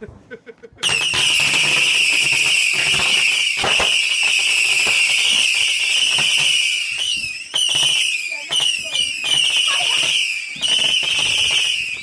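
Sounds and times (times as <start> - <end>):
whistling firework shrieking: 0.8 - 12.0.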